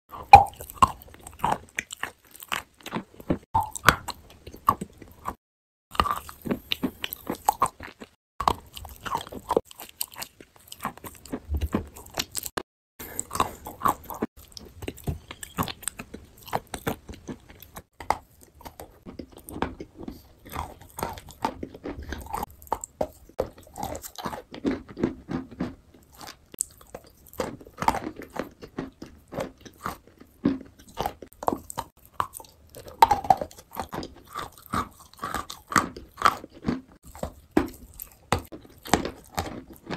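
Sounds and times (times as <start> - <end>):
crunching and chewing clay: 0.1 - 39.9.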